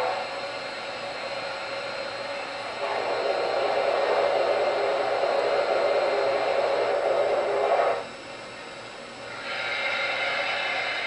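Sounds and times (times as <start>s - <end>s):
model locomotive running: 0.0s - 11.0s.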